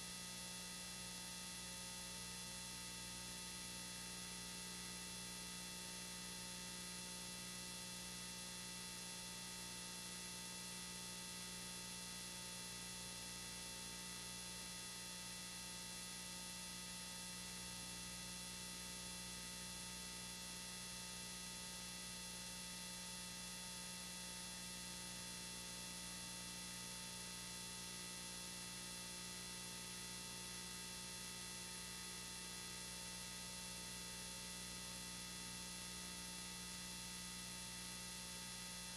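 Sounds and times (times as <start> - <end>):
electrical hum with hiss: 0.0 - 38.9.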